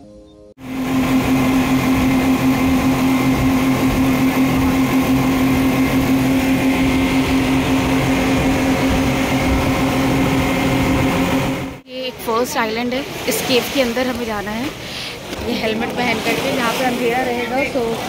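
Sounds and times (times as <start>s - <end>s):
rush of wind and water: 0.6s - 18.0s
speed boat engines droning: 0.6s - 18.0s.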